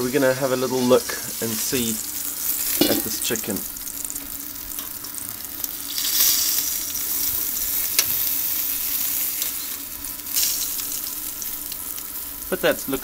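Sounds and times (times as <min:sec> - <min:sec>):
chicken sizzling on a grill: 0:00.0 - 0:13.0.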